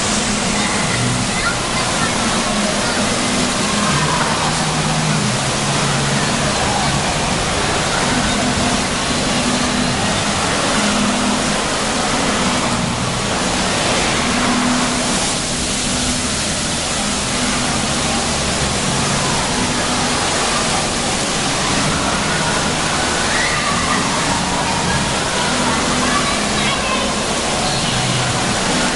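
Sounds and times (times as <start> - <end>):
water spraying and falling: 0.0 - 28.9.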